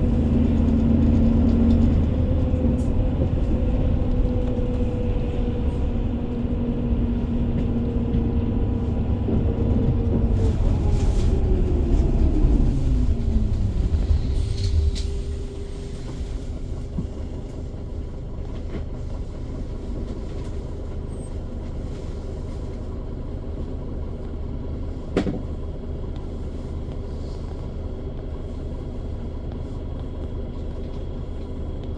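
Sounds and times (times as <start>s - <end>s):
steady low rumble: 0.0s - 31.9s.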